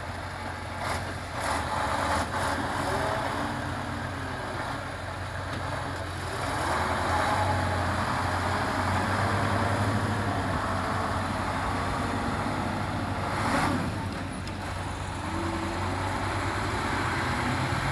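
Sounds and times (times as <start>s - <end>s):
truck engine humming: 0.0s - 17.9s.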